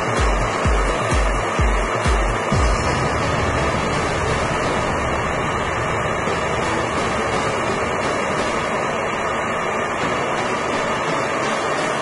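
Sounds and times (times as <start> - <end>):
gas torch flame rushing: 0.0 - 12.0.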